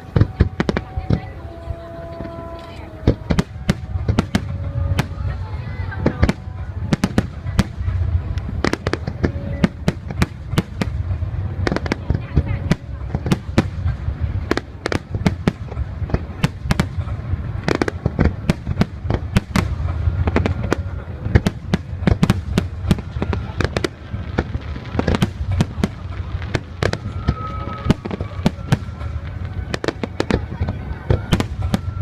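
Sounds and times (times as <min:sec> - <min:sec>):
fireworks bangs and crackles: 0:00.0 - 0:32.0
low rumble: 0:00.0 - 0:32.0.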